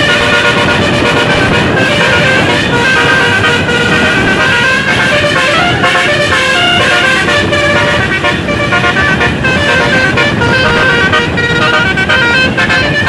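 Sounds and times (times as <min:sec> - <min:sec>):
multi-tone bus air horns: 0:00.0 - 0:13.0.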